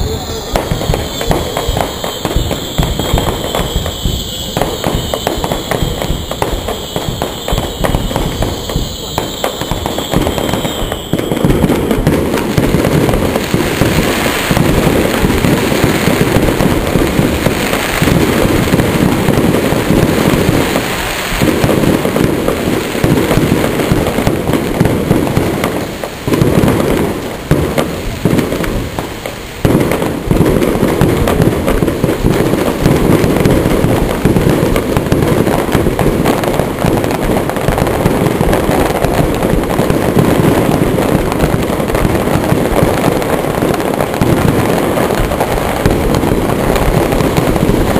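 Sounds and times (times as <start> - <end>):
fireworks booming and crackling: 0.0 - 47.9.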